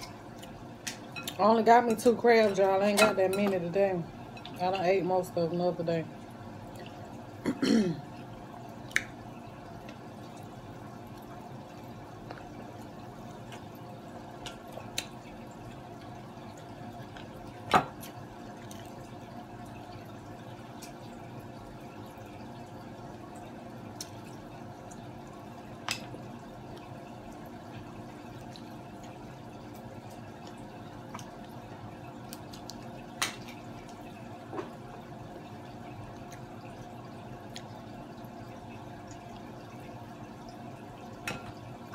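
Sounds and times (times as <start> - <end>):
aquarium filter trickling and humming: 0.0 - 41.9.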